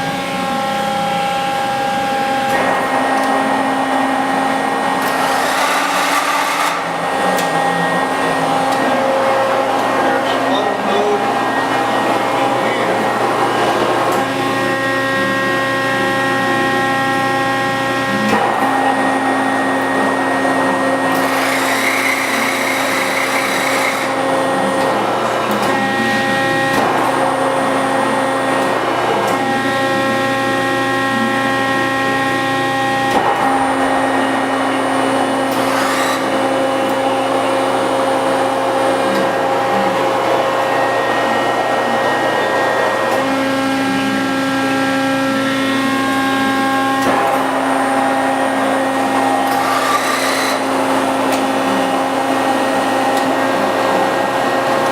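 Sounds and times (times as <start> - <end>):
hydraulic pump motor whining hum: 0.0 - 54.9.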